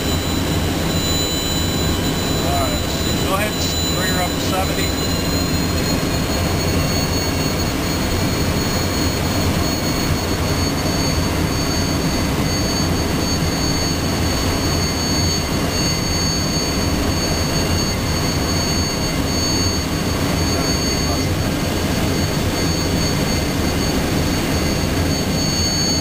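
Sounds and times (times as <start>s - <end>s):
jet engine rumble and whine: 0.0s - 26.0s.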